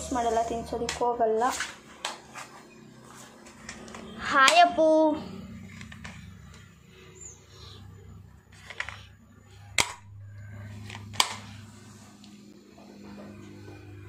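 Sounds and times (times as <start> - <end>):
low hum: 2.0 - 14.0.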